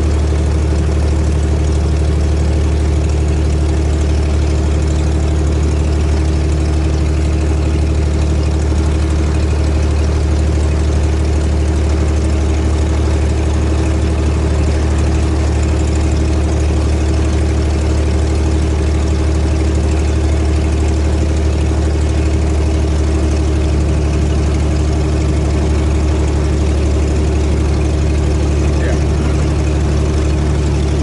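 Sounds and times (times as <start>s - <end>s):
aircraft engine droning in cockpit: 0.0s - 31.0s.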